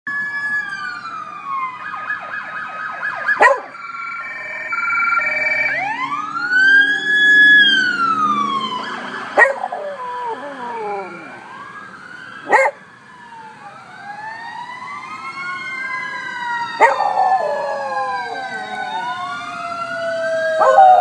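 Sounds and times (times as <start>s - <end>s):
fire truck siren: 0.1s - 21.0s.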